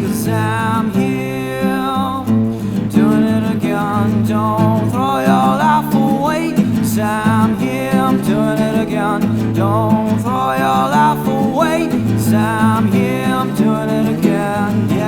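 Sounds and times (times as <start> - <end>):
guitar: 0.0 - 15.0.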